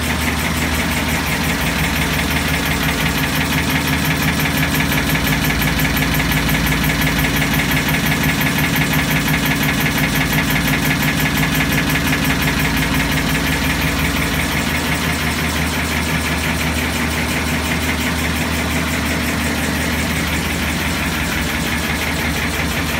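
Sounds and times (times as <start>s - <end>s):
machine humming with pulsing: 0.0s - 22.9s.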